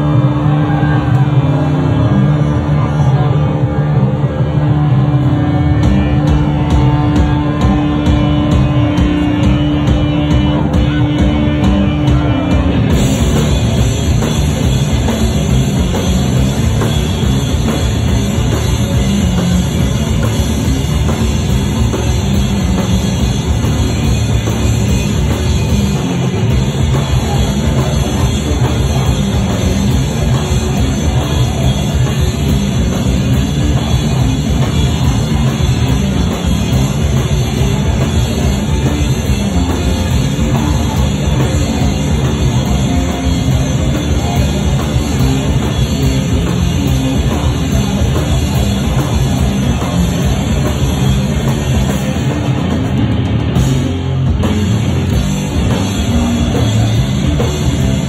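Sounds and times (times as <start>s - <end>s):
distorted guitar and bass: 0.0s - 58.0s
pounding drum kit: 0.0s - 58.0s.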